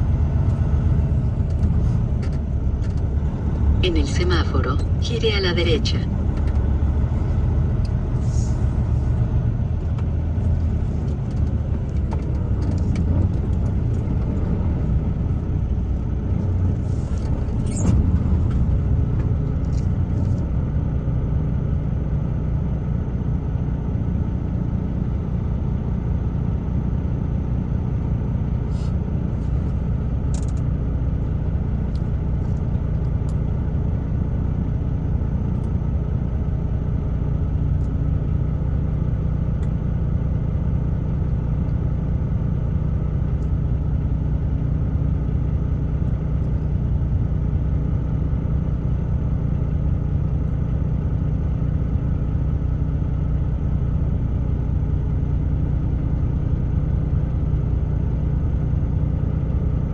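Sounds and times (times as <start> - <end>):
truck engine and tyre rumble: 0.0 - 59.9.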